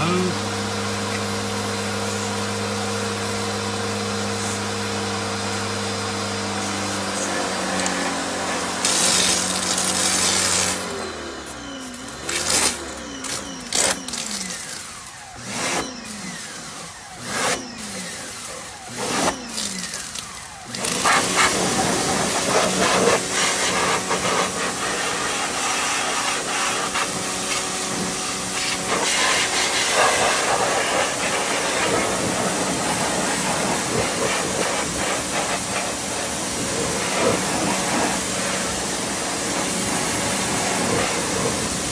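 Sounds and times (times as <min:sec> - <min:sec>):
pressure washer falling whine: 0:00.0 - 0:41.9
pressure washer spraying: 0:00.0 - 0:41.9.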